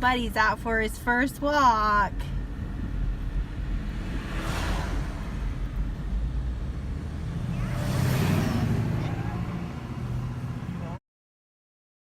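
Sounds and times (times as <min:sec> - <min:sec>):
steady low traffic rumble: 0:00.0 - 0:11.0
vehicles passing: 0:00.0 - 0:11.0.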